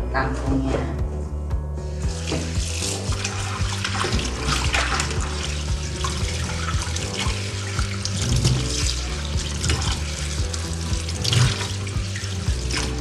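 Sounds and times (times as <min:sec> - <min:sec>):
water splashing: 0:02.0 - 0:13.0.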